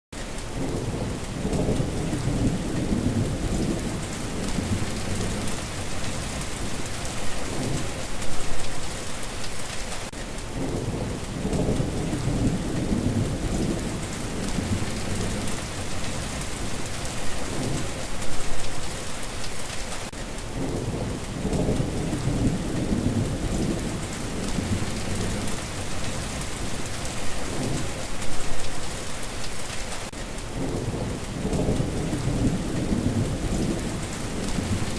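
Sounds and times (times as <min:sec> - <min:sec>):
steady rain falling: 0:00.1 - 0:34.9
low thunder rumbles: 0:00.5 - 0:09.2, 0:10.5 - 0:19.1, 0:20.5 - 0:29.1, 0:30.5 - 0:34.9.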